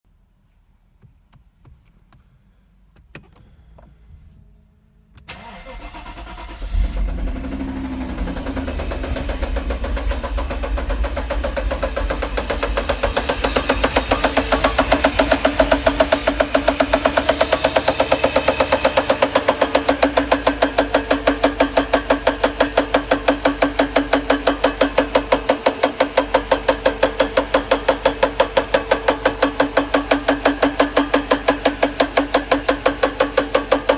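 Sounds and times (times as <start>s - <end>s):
engine cranking and starting: 5.2s - 33.9s
engine idling with rapid knocking: 5.3s - 33.9s.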